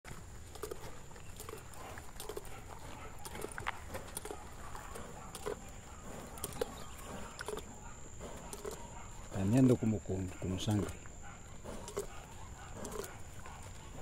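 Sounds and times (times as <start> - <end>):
horse hooves on dirt: 0.0 - 14.0.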